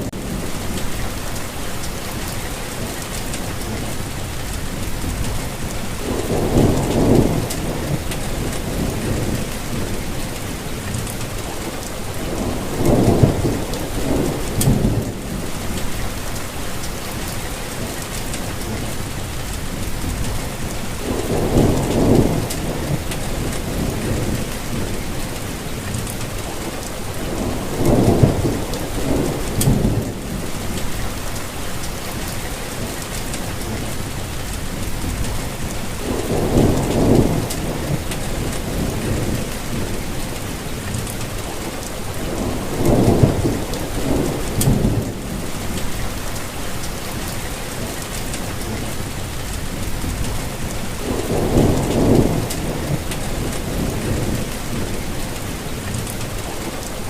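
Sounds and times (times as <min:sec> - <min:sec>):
low thunder rumbles: 0:00.0 - 0:57.0
steady rainfall: 0:00.0 - 0:57.0.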